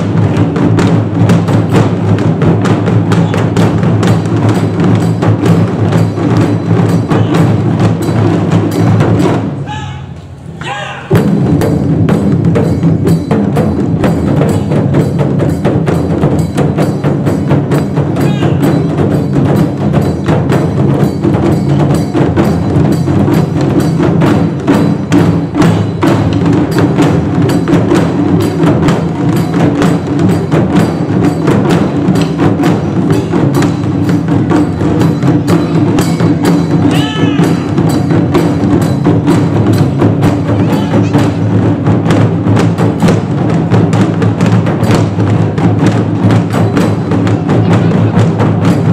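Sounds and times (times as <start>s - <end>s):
taiko ensemble drumming: 0.0s - 48.9s.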